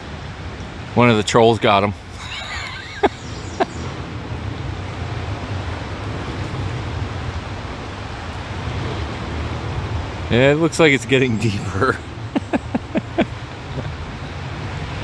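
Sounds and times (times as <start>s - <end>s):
flowing water rushing: 0.0s - 15.0s
road traffic rumble: 0.0s - 15.0s.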